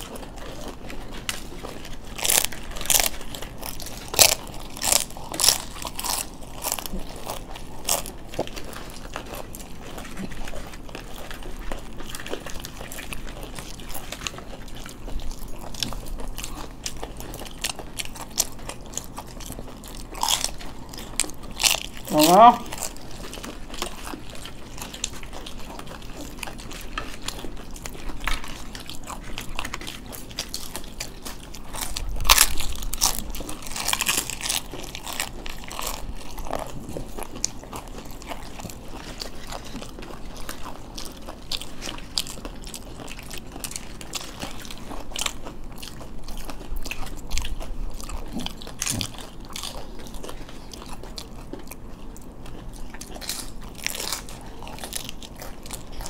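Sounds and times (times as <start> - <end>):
people chewing crunchy snack: 0.0 - 56.0.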